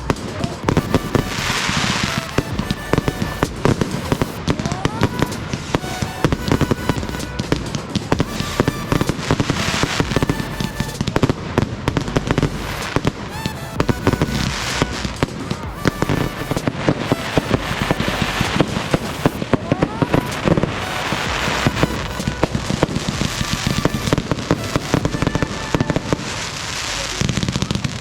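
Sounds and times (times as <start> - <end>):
music with held notes: 0.0 - 27.9
fireworks bangs and crackling: 0.0 - 28.0
rockets whistling: 0.0 - 28.0.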